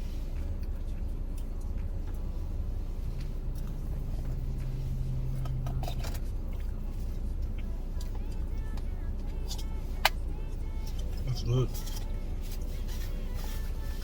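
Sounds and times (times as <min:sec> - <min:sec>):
car engine idling: 0:00.0 - 0:14.0
steady hum: 0:00.0 - 0:14.0.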